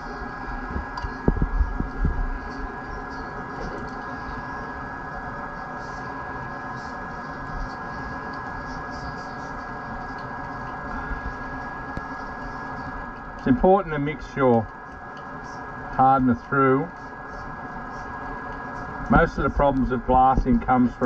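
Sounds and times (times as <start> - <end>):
hum with whine: 0.0 - 21.0.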